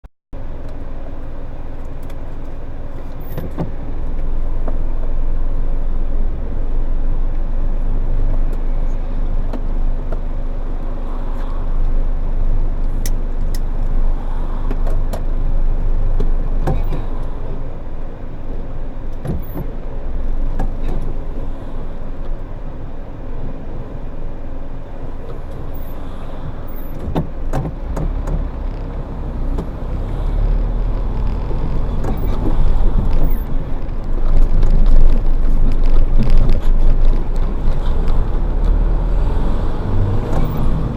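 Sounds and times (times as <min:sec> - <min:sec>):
road and engine rumble: 0:00.3 - 0:40.9.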